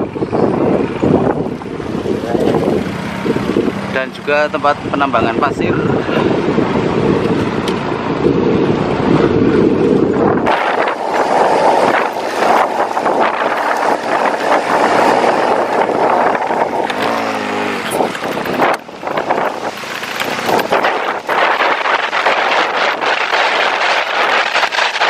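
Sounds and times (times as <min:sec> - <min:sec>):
motorcycle engine at speed: 0:00.0 - 0:25.0
wind buffeting microphone: 0:00.0 - 0:25.0.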